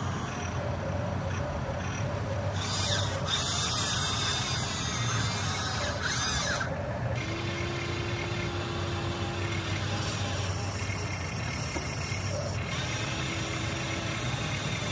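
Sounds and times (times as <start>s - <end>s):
electric motors whirring: 0.0s - 14.9s
steady hum: 0.0s - 14.9s.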